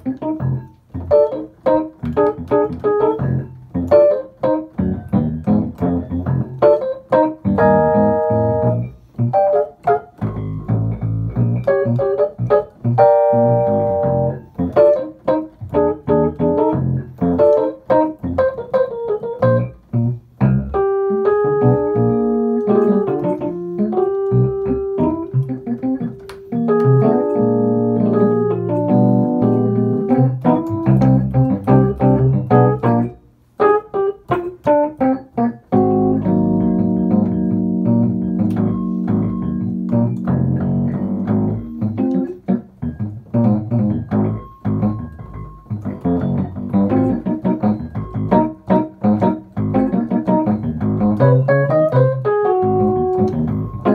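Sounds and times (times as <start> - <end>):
electric piano chords and melody: 0.0 - 53.9.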